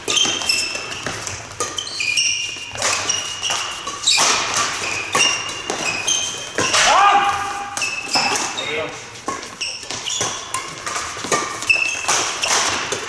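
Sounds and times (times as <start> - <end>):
racket hitting shuttlecock: 0.0 - 8.6, 9.2 - 13.0
shoes squeaking on court floor: 0.0 - 13.0.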